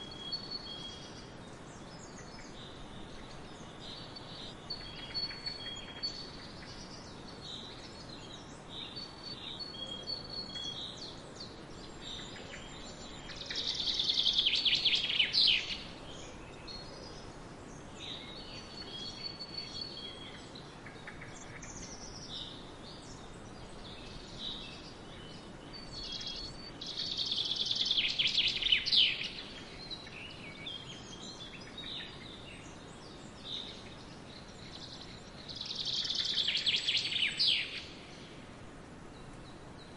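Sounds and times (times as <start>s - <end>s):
swallows twittering: 0.0s - 38.4s
faint wind hiss: 0.0s - 39.9s.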